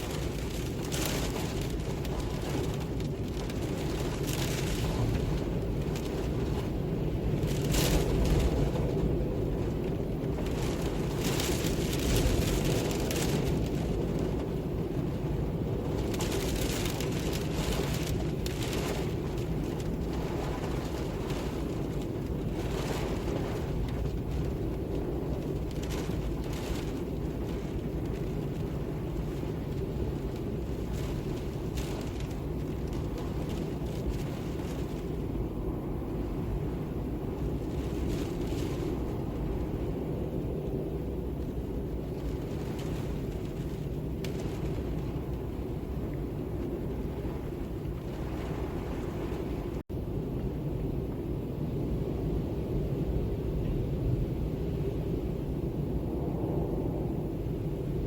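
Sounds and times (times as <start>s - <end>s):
soft crackles: 0.0s - 49.8s
deep wind rumble: 0.0s - 58.0s.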